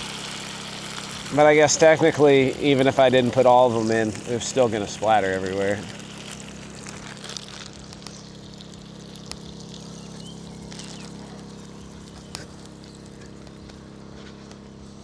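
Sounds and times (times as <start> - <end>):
food sizzling in hot oil: 0.0 - 13.5.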